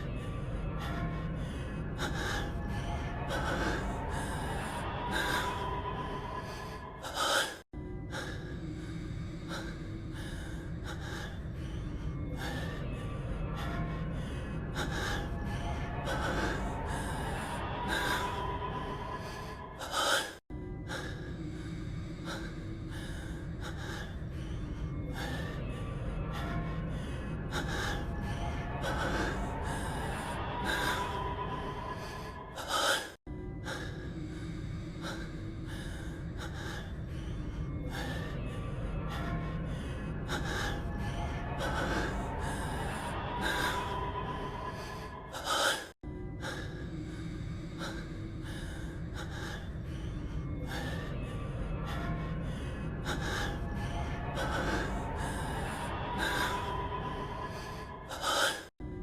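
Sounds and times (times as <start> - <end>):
background music: 0.0 - 59.0
man breathing heavily and gasping: 6.4 - 58.7.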